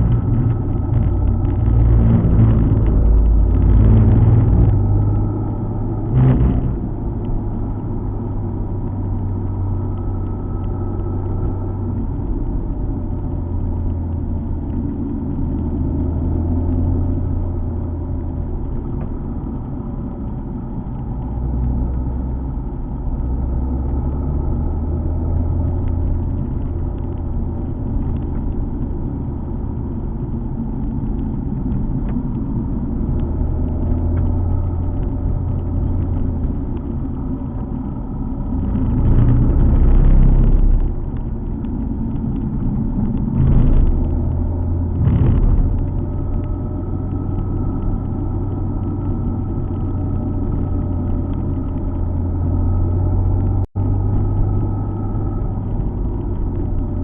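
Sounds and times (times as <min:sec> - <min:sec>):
car engine running: 0:00.0 - 0:57.0
tyre and road noise: 0:00.0 - 0:57.0.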